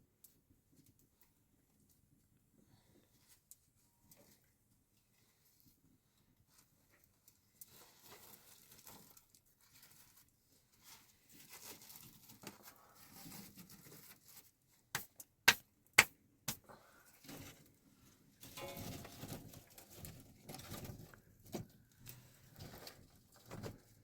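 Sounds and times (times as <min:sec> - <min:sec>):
faint rustling and handling: 0:00.1 - 0:14.9, 0:16.8 - 0:24.0.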